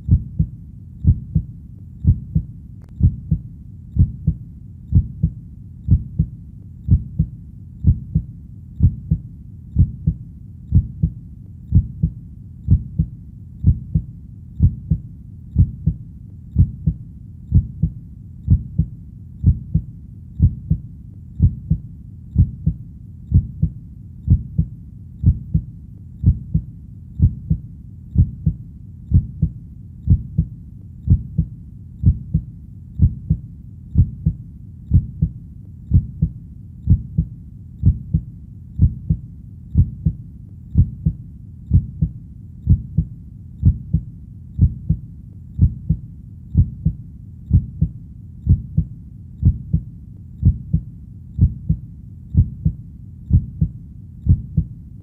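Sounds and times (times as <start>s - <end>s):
heartbeat thumps: 0.0s - 54.8s.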